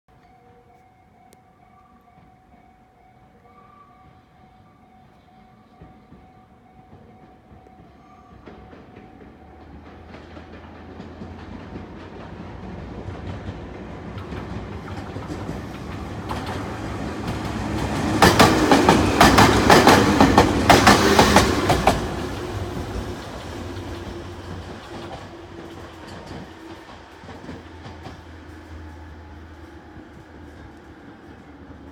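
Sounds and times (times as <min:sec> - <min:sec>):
wheels clacking over rail joints: 0:05.8 - 0:31.9.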